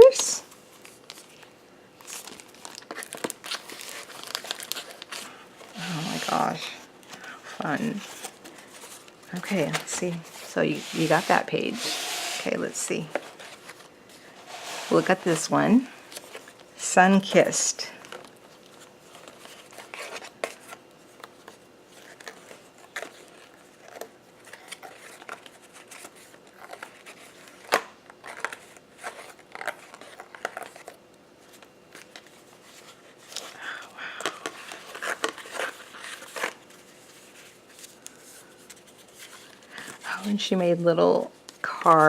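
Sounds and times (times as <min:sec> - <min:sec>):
paper rustling and crinkling: 0:00.0 - 0:42.0.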